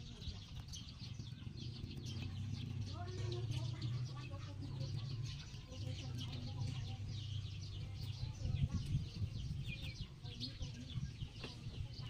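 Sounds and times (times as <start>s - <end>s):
rabbit chewing grass: 0.0s - 12.0s.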